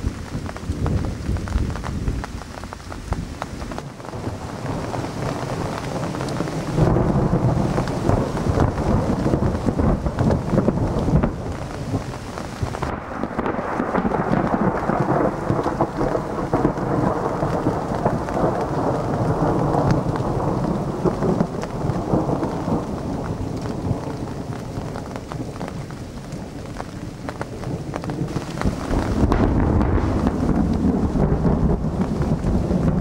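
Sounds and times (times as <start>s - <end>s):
rain falling: 0.0s - 33.0s
thunder rumbling: 0.0s - 33.0s.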